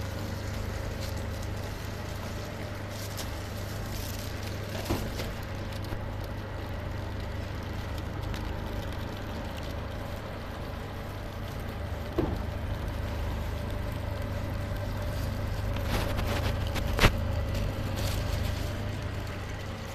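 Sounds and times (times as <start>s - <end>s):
packaging machine humming: 0.0s - 19.9s.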